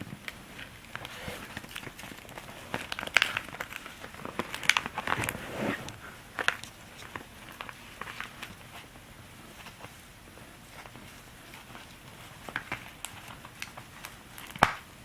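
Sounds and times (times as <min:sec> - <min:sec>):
palm-leaf hat crinkling: 0:00.0 - 0:15.0.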